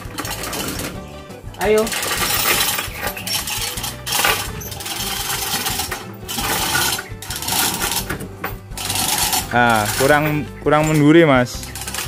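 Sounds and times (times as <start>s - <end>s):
chain hoist chain rattling: 0.0s - 12.0s.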